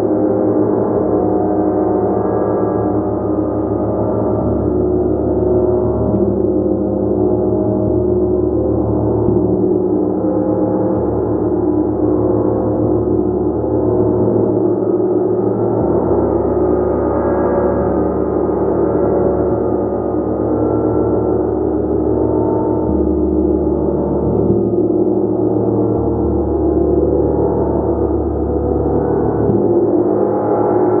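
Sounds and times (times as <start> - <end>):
gong resonating: 0.7 - 31.0.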